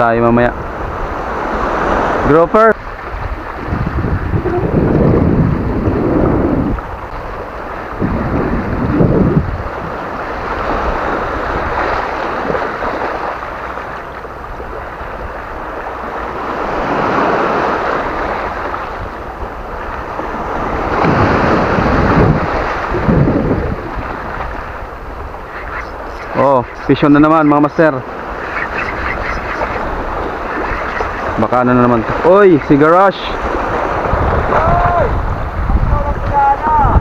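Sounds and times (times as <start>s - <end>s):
wind buffeting microphone: 0.0s - 37.0s
waves washing over pebbles: 0.4s - 35.7s.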